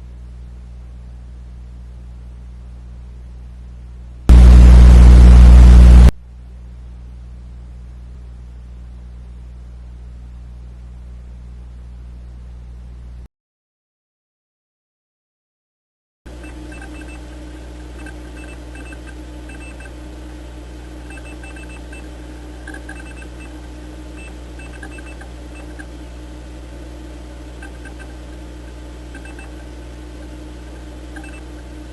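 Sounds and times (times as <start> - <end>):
low electrical hum: 0.0 - 13.3, 16.3 - 31.9.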